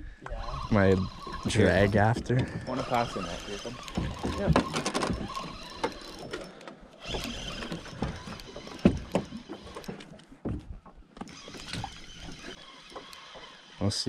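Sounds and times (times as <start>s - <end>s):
fishing reel whirring: 0.3s - 10.1s, 11.2s - 14.0s.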